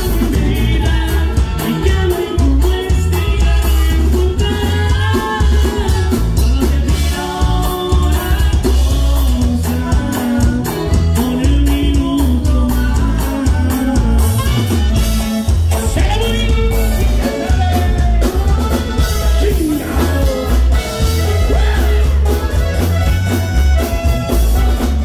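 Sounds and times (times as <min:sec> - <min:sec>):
conjunto band music with singing: 0:00.0 - 0:25.0.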